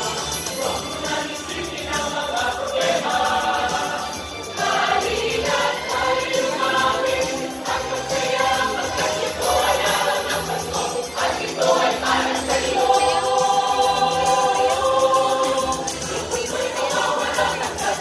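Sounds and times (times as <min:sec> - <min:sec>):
choir singing a carol: 0:00.0 - 0:18.0
fast high ticking rhythm: 0:00.0 - 0:18.0.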